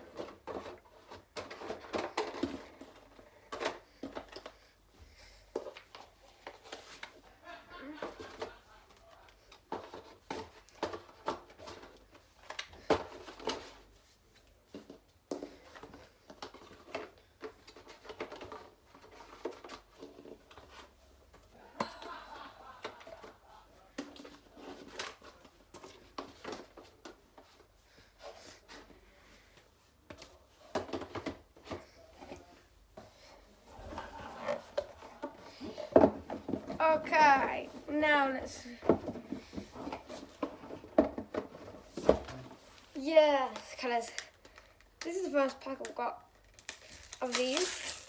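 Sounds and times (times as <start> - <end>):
rustling of card and plastic: 5.5 - 21.6, 22.8 - 48.0.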